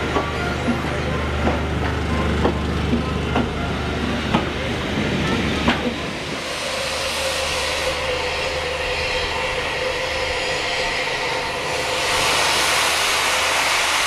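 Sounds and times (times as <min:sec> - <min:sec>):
train coaches rumbling: 0:00.0 - 0:14.0.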